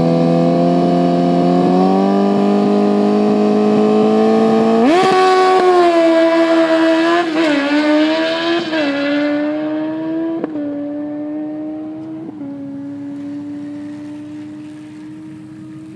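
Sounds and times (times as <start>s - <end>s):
motorcycle engine at full throttle: 0.0s - 15.9s.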